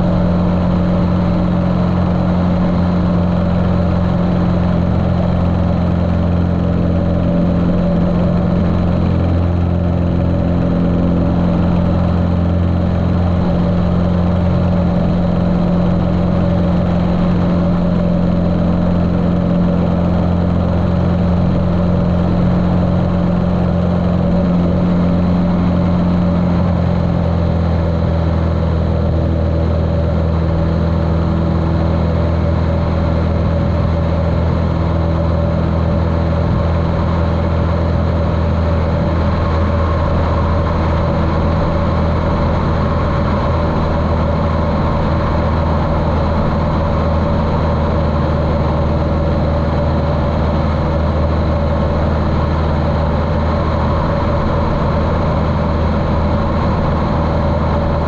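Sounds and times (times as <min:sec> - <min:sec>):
muffled airplane engine running: 0:00.0 - 0:58.0.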